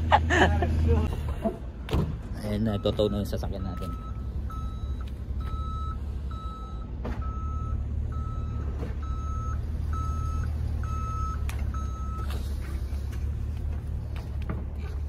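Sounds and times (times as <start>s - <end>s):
truck reversing alarm beeping: 2.4s - 15.0s.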